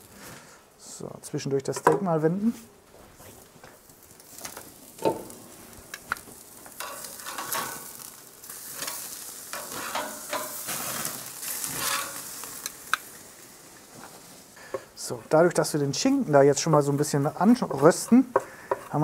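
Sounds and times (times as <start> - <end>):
steaks sizzling on grill: 3.6 - 19.0.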